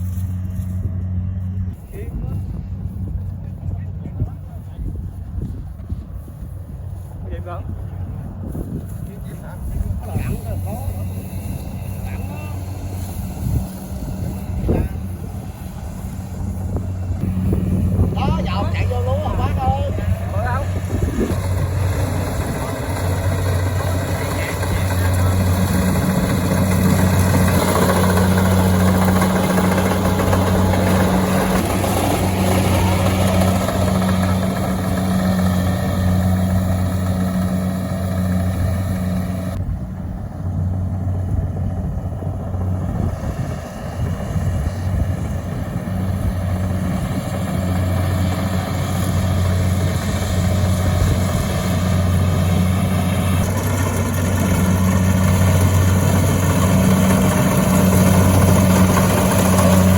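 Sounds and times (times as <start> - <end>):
engine humming steadily: 0.0 - 59.9.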